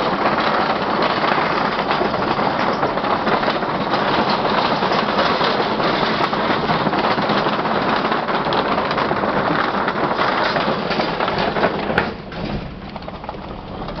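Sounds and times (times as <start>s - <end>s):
tyre rumble on gravel: 0.0s - 14.0s
wooden boards clattering under tyres: 0.0s - 14.0s.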